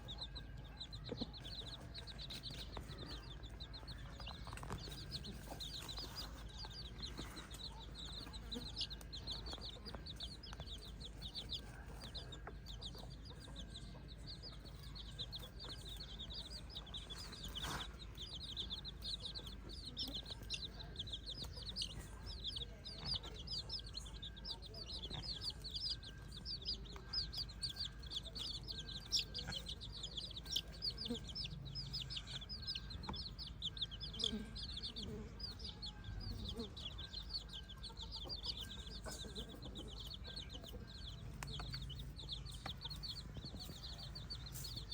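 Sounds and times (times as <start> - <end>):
chickens clucking: 0.0 - 44.9
chicks peeping: 0.0 - 44.9.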